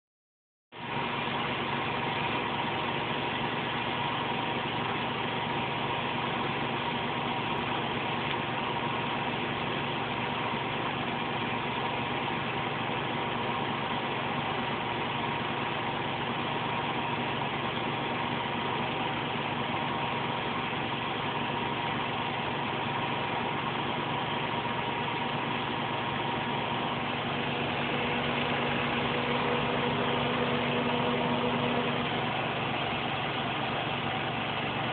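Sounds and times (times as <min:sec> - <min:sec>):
washing machine spinning: 0:00.8 - 0:34.9.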